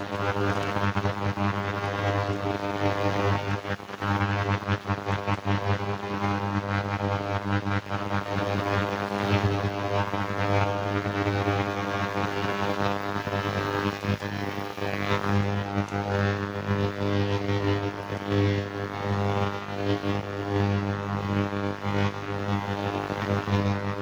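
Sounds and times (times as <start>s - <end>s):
ultrasonic cleaner buzzing: 0.0s - 24.0s.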